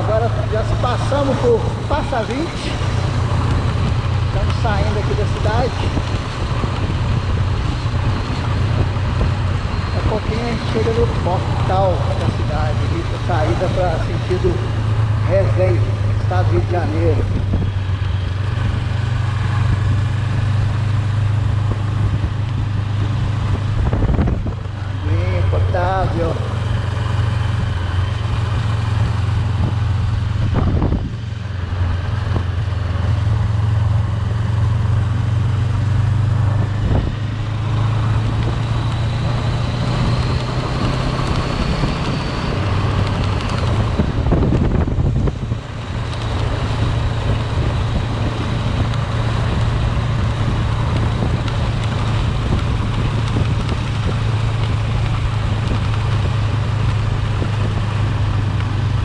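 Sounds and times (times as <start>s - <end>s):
car engine drone: 0.0s - 59.0s
road noise: 0.0s - 59.0s.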